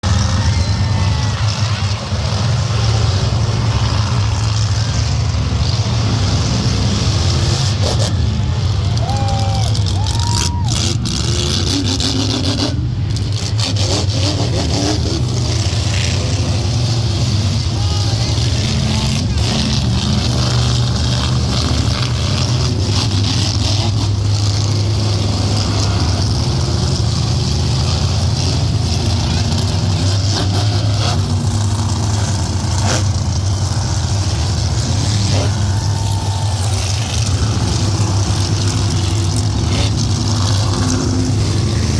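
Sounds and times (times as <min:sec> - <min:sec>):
monster truck engine rumbling: 0:00.0 - 0:41.9.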